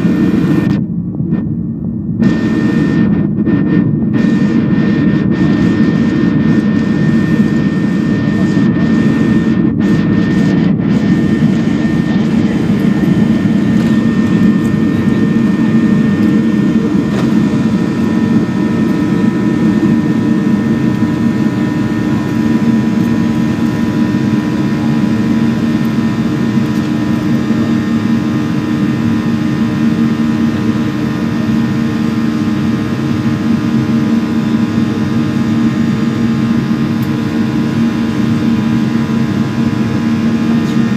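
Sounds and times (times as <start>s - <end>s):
jet engines rumbling and whining: 0.0s - 40.9s.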